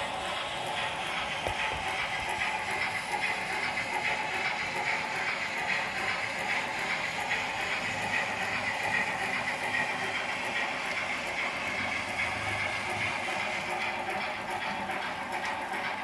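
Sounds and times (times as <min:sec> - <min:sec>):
clicking at rail joints: 0:00.0 - 0:16.0
model train wheels rolling: 0:00.0 - 0:16.0.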